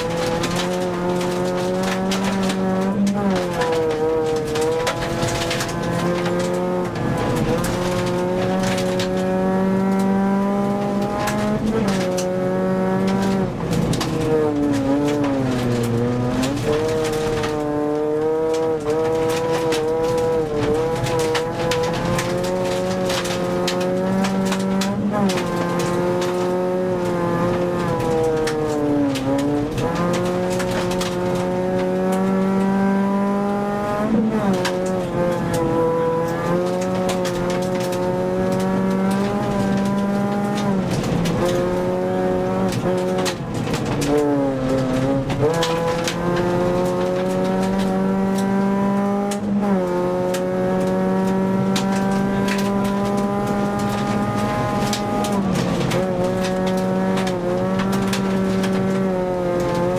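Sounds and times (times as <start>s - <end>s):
gravel road noise: 0.0s - 59.9s
rally car engine revving: 0.0s - 59.9s
ticks and clatters: 0.0s - 59.9s.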